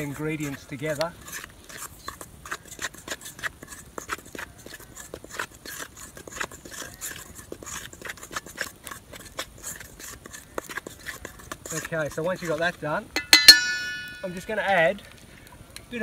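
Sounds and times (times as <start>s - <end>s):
flour stirred in metal bowl: 0.0s - 14.8s.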